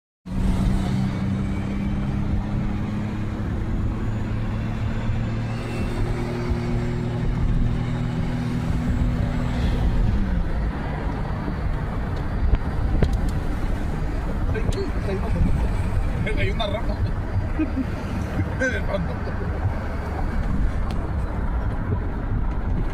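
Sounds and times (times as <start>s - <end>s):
wind noise on microphone: 3.5s - 18.6s, 19.4s - 22.9s.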